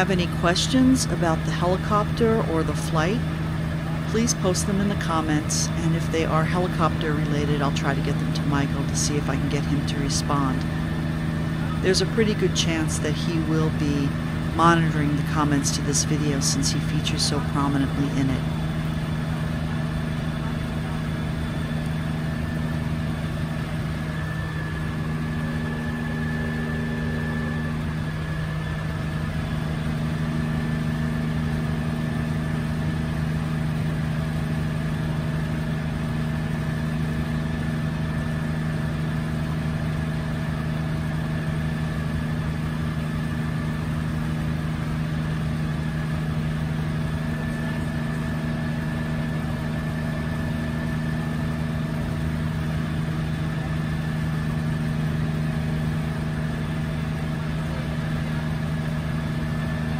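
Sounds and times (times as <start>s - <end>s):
helicopter engine and rotors drone: 0.0s - 59.9s.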